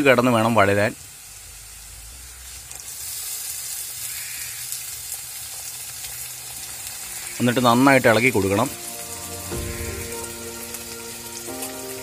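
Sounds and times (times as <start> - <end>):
onions frying in oil sizzling: 0.0 - 12.0.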